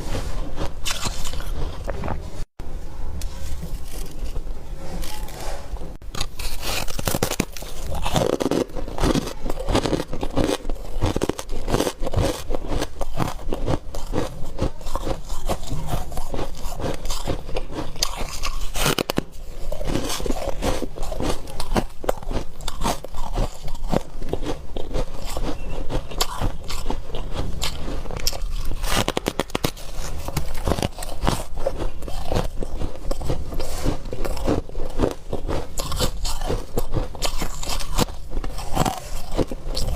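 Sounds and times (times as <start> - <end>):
person crunching ice: 0.0 - 2.4, 3.4 - 39.9.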